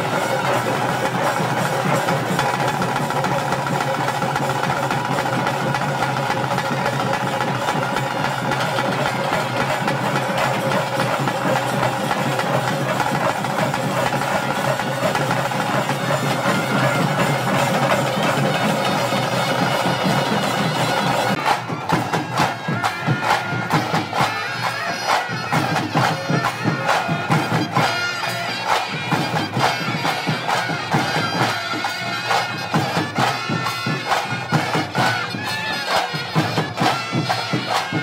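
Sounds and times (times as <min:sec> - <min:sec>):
rapid drumming: 0:00.0 - 0:38.0.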